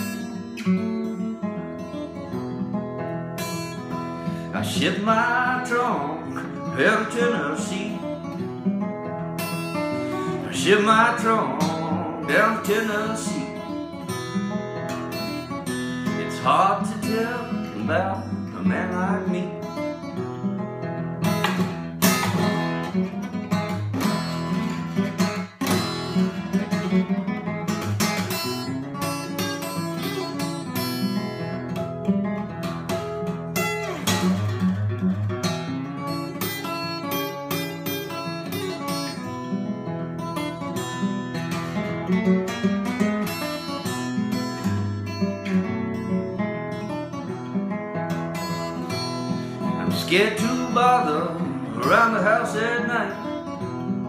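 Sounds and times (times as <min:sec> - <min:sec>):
fingerpicked acoustic guitar blues: 0:00.0 - 0:54.0.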